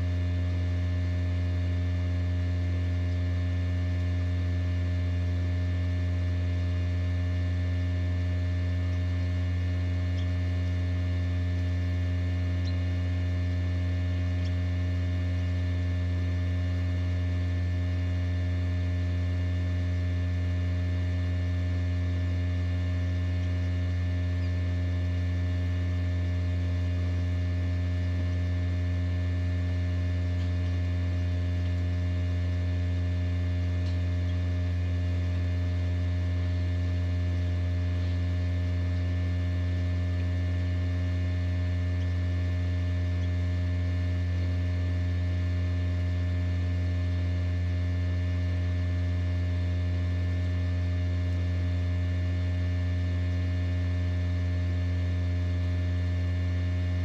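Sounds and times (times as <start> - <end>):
incubator electrical hum: 0.0 - 57.0.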